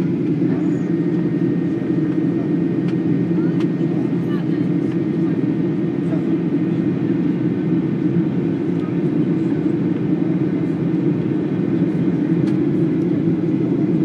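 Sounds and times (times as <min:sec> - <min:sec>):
jet engine roar in cabin: 0:00.0 - 0:14.0.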